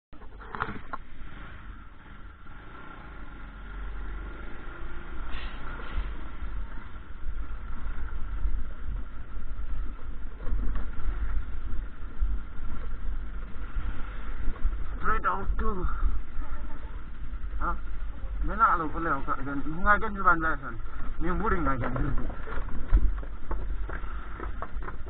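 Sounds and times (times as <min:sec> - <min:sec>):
motorbike engine running: 0:00.2 - 0:25.0.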